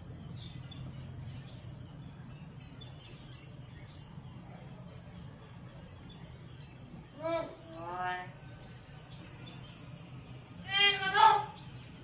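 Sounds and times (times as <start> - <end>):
faint high bird chirps: 0.0 - 12.0
steady low hum: 0.0 - 12.0.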